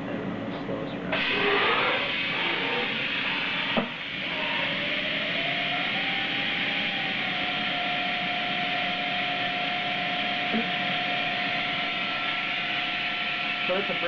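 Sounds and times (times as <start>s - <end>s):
higher whine: 0.0s - 14.0s
mill spindle whine: 0.0s - 14.0s
steady hiss: 0.0s - 14.0s.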